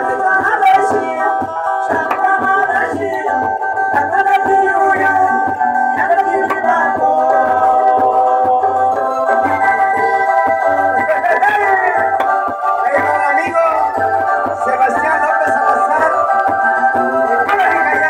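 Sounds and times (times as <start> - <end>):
live band playing amplified music: 0.0 - 18.0.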